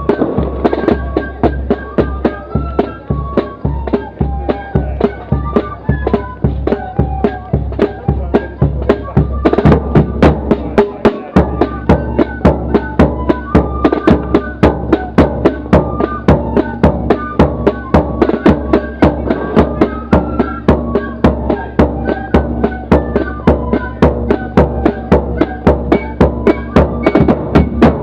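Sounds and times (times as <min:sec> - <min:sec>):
flutes playing melody: 0:00.0 - 0:28.0
loud marching drums: 0:00.0 - 0:28.0.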